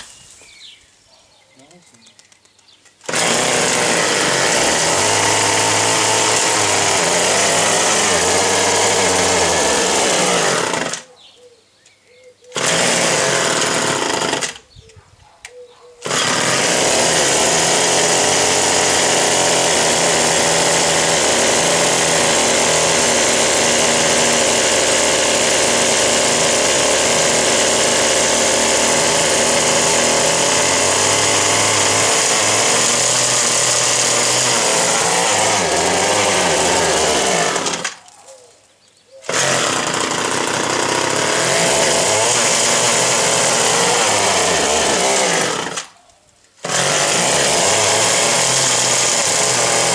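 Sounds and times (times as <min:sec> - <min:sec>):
hedge trimmer engine running: 0:03.0 - 0:11.1, 0:12.5 - 0:14.6, 0:16.0 - 0:38.0, 0:39.2 - 0:46.0, 0:46.6 - 0:49.9.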